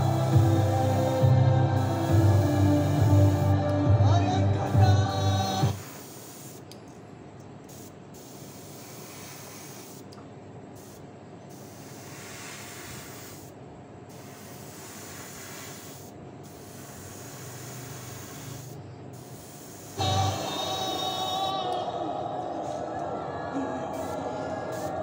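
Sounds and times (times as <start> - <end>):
airbrush spraying air hiss: 0.0 - 6.8, 7.7 - 21.6, 23.9 - 25.0.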